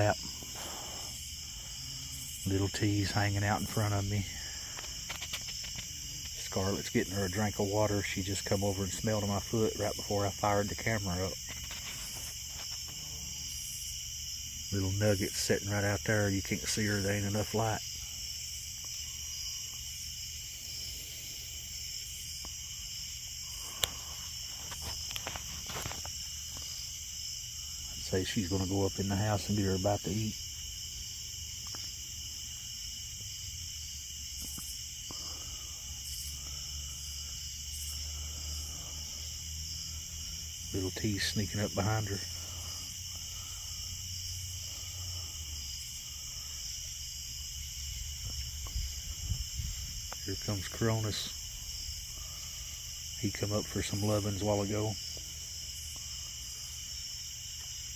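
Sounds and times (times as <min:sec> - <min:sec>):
crickets chirping: 0:00.0 - 0:57.9
night insects chorus: 0:00.0 - 0:57.9.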